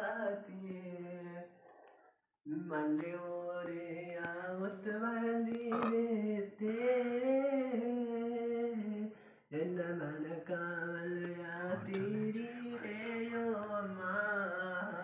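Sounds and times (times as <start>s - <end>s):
man singing unaccompanied: 0.0s - 1.6s, 2.5s - 15.0s.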